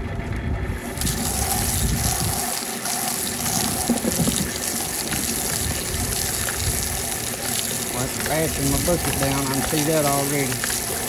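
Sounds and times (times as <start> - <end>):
hose spraying water into bucket: 0.8 - 11.0.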